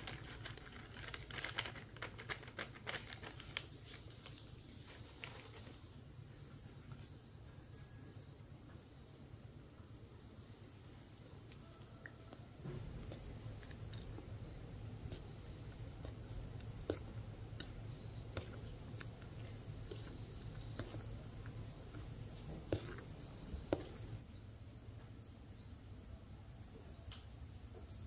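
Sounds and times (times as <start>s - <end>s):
insects trilling: 0.0s - 26.1s.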